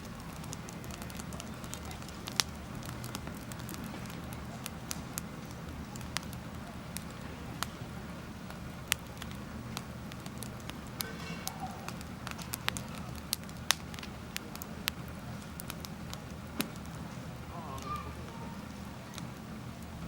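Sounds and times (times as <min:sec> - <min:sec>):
campfire crackling: 0:00.0 - 0:20.0
low steady rumble: 0:00.0 - 0:20.0
sharp pops of fire: 0:00.0 - 0:20.0.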